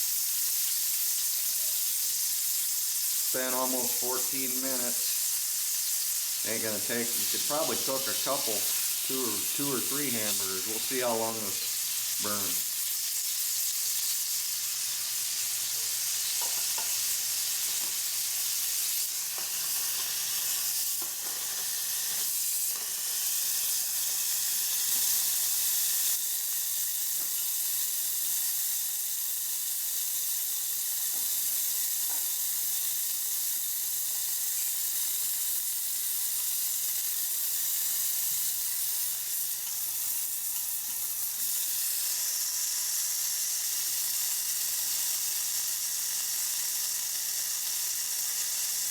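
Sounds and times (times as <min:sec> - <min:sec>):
meat patty sizzling: 0:00.0 - 0:48.9.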